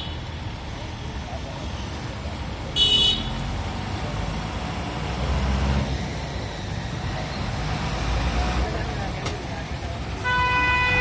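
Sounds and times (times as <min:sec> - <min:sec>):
truck diesel engine passing: 0:00.0 - 0:10.3.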